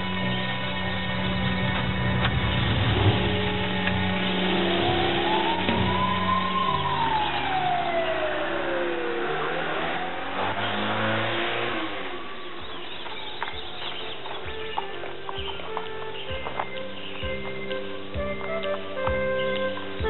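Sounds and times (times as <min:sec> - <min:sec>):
vehicle engine accelerating: 0:00.0 - 0:19.5
ambulance siren wailing: 0:00.0 - 0:20.0.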